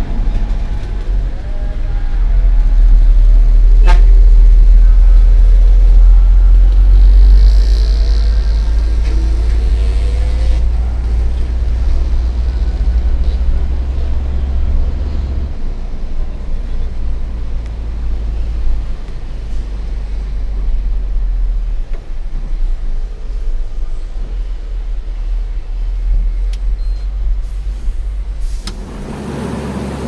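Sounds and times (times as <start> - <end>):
truck diesel engine rumbling: 0.0 - 30.0.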